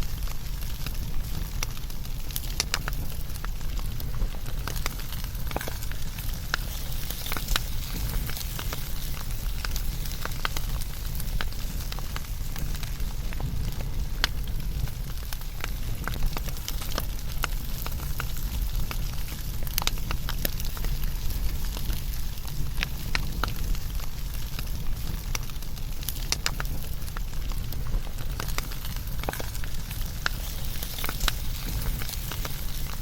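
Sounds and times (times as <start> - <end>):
fire crackling and popping: 0.0 - 33.0
low rumble of flames: 0.0 - 33.0.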